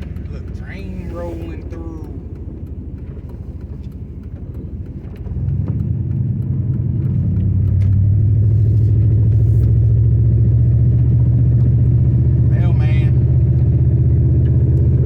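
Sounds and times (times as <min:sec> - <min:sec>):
heavy engine droning: 0:00.0 - 0:15.0.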